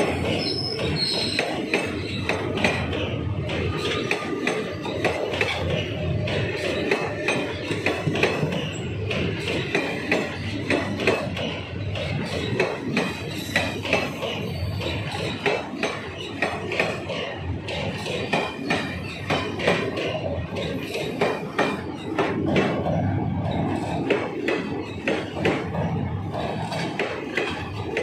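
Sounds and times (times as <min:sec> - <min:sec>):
train rumble: 0:00.0 - 0:28.0
train wheels clattering on track: 0:00.0 - 0:28.0.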